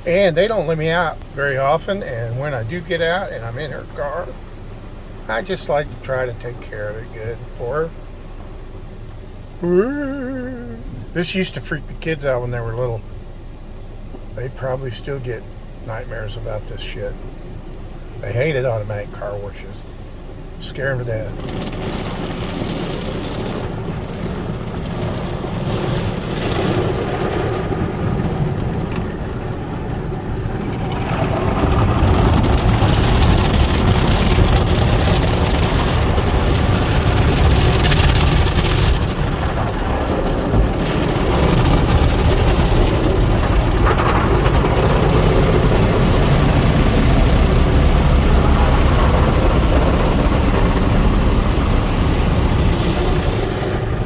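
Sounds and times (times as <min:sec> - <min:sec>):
car wash rushing rumble: 0:00.0 - 0:54.0.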